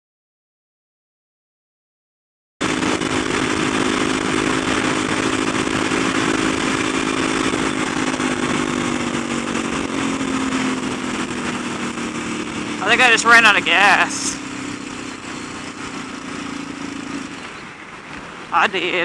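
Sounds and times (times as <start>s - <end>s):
motorcycle engine running: 2.6s - 18.5s
wind rushing over microphone: 2.6s - 18.6s.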